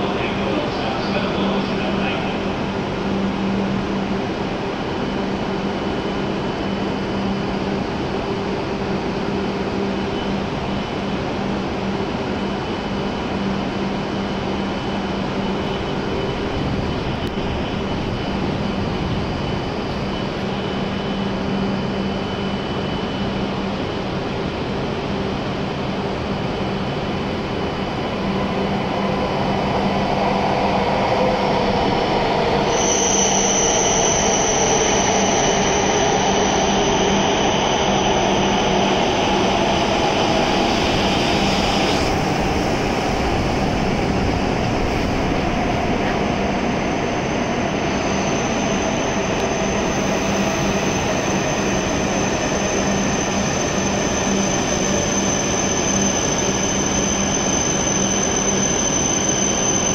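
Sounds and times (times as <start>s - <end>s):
train pulling in: 0.0s - 59.9s.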